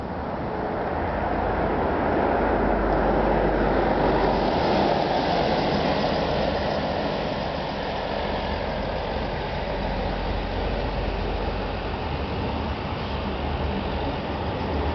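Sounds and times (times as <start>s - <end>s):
metro train rumbling: 0.0s - 14.9s.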